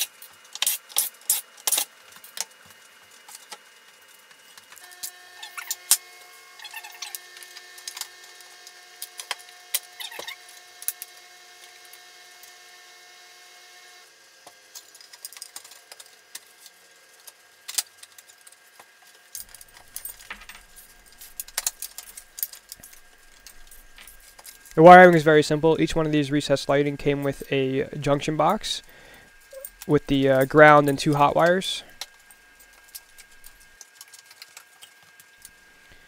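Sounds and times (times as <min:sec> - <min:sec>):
small parts clicking and rattling: 0:00.0 - 0:06.0, 0:06.6 - 0:12.6, 0:14.4 - 0:25.3, 0:29.3 - 0:35.6
faint steady hum: 0:00.0 - 0:36.0.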